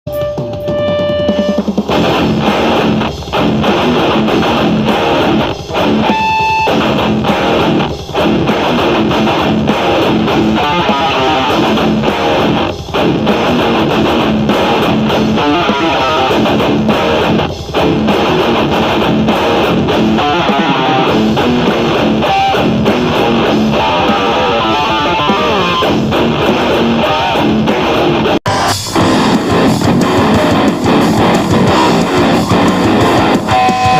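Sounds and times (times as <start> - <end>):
heavy metal music: 0.1 - 33.9.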